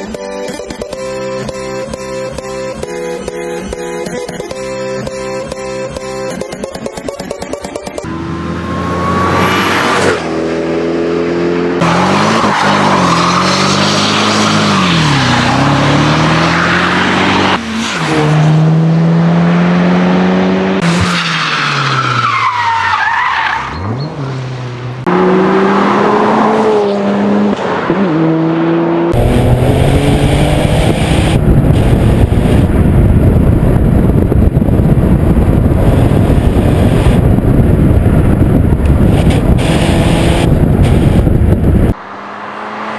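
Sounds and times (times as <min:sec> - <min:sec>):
car engines revving: 0:00.7 - 0:42.9.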